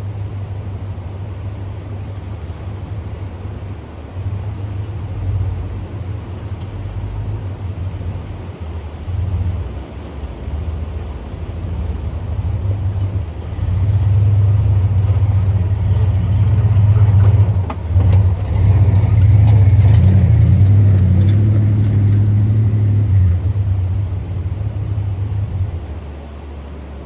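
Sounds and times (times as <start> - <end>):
off-road vehicle engine under load: 0.0 - 27.0.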